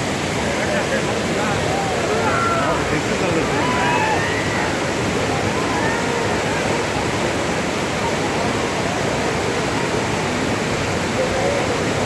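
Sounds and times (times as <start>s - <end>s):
river water rushing: 0.0s - 12.0s
faint voices calling out: 1.3s - 12.0s.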